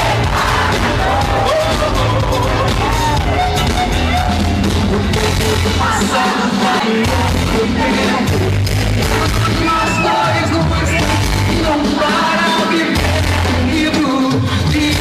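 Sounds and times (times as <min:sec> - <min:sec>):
people singing: 0:00.0 - 0:03.1, 0:05.0 - 0:15.0
live pop-rock band: 0:00.0 - 0:15.0.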